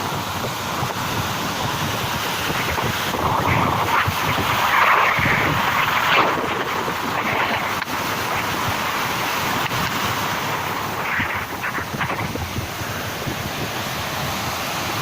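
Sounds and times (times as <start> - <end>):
surf rushing: 0.0 - 15.0
wind buffeting microphone: 0.0 - 15.0.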